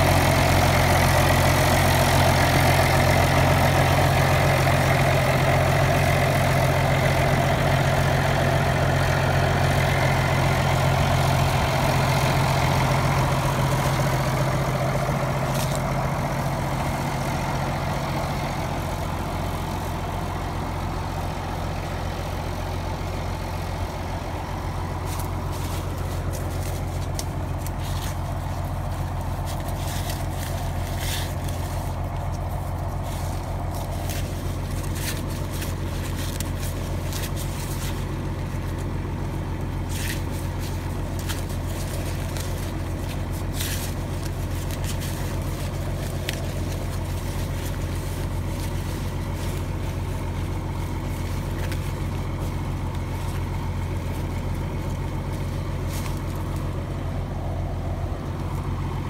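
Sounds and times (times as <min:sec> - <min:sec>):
dry corn husks crackling: 0:00.0 - 0:59.0
tractor and harvester droning: 0:00.0 - 0:59.0.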